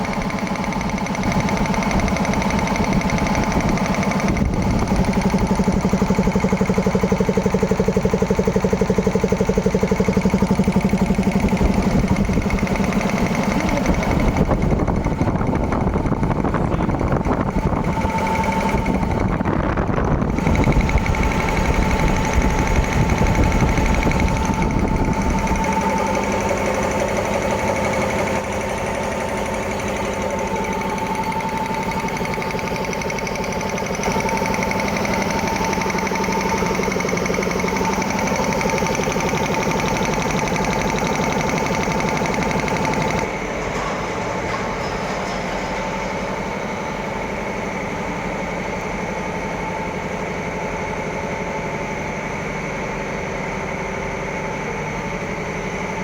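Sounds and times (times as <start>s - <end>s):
air compressor chugging: 0.0s - 56.0s
compressor high hum: 0.0s - 56.0s.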